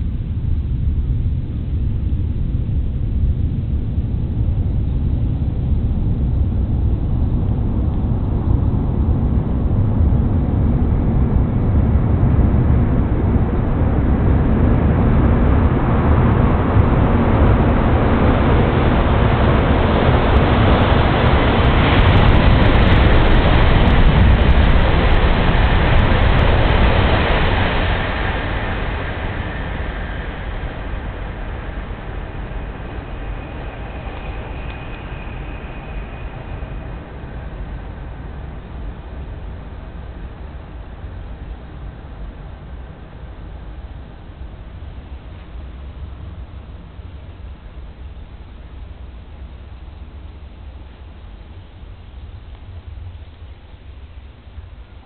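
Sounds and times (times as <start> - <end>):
train passing at speed: 4.6 - 55.0.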